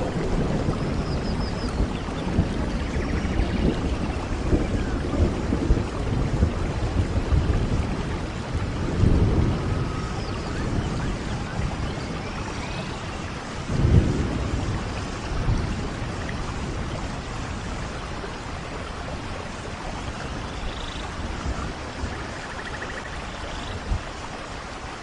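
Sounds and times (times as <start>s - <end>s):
steady rain: 0.0s - 25.0s
thunder rumble: 0.0s - 25.0s.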